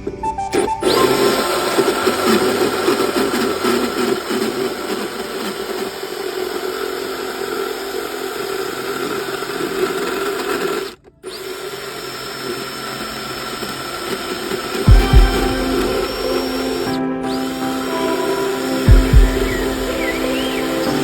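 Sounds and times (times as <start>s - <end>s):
small electric motor running: 0.5s - 21.0s.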